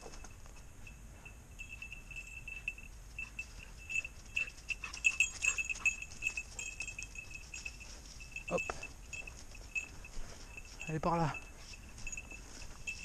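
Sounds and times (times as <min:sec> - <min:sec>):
dog collar bell jingling: 0:00.0 - 0:13.0.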